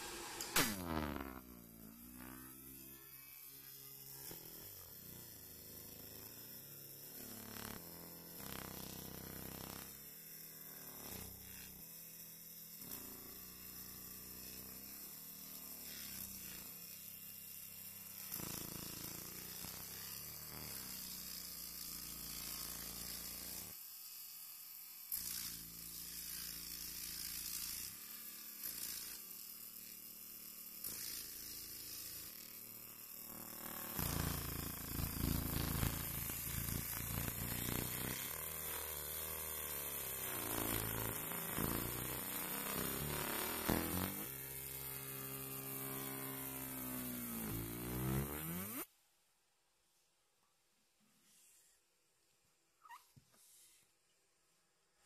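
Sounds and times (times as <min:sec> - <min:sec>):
laser engraving buzzing hiss: 0:00.0 - 0:48.9.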